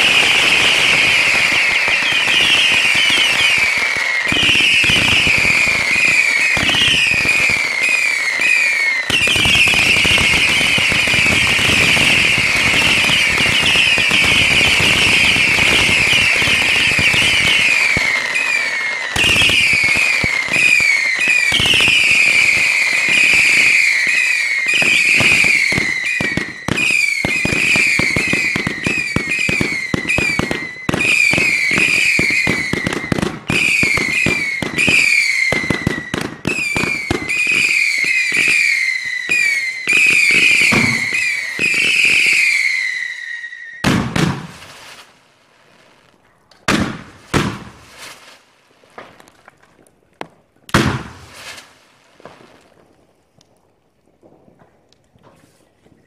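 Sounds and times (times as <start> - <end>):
firework whistles falling in pitch: 0.0 - 45.0
firework bangs: 0.0 - 45.2, 46.6 - 49.5, 50.2 - 53.2
fireworks crackling and popping: 0.0 - 56.0.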